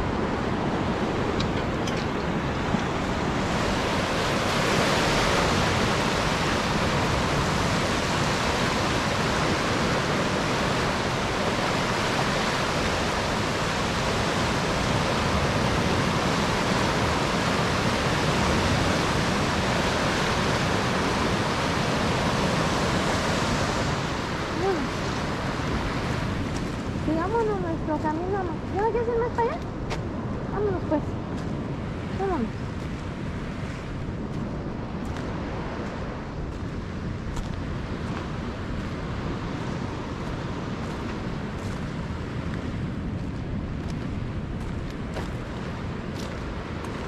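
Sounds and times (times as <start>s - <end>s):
turbulent water rushing: 0.0s - 47.0s.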